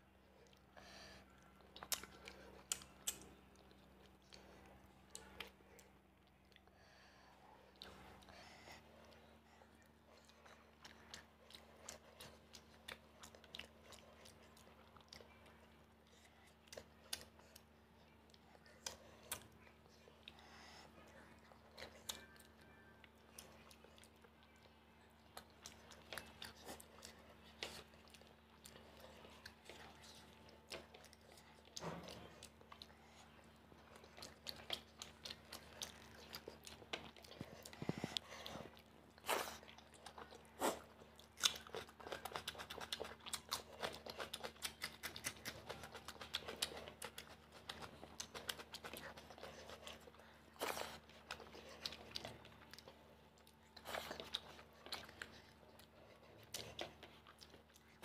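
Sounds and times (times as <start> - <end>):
chewing and mouth sounds: 0.0 - 7.0, 7.6 - 58.0
faint steady hum: 0.0 - 58.0.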